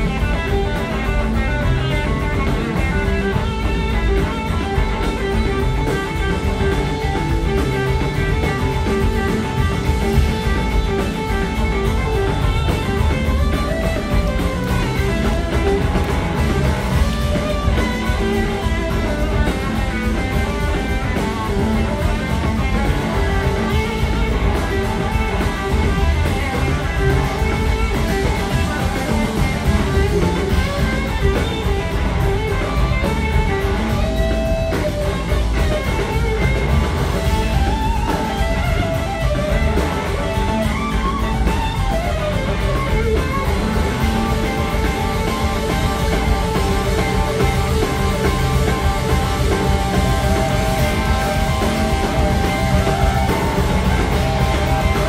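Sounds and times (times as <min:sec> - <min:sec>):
electric guitar: 0:00.0 - 0:55.0
live blues-rock band playing: 0:00.0 - 0:55.0.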